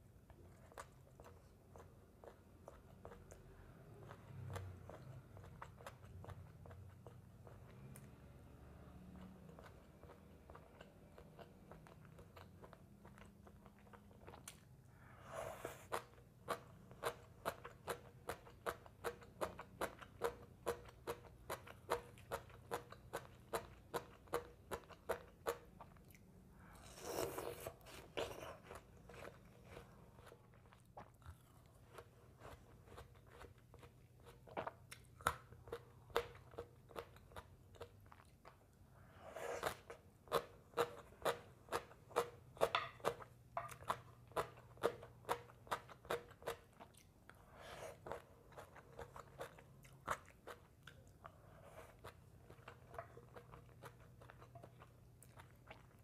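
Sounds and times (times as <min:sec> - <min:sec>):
chewing crunchy food: 0:00.2 - 0:08.2, 0:09.0 - 0:14.8, 0:15.9 - 0:56.0.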